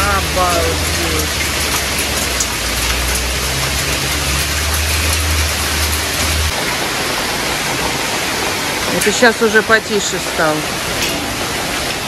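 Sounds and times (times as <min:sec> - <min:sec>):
hailstones ticking: 0:00.0 - 0:12.0
heavy rain hissing: 0:00.0 - 0:12.0.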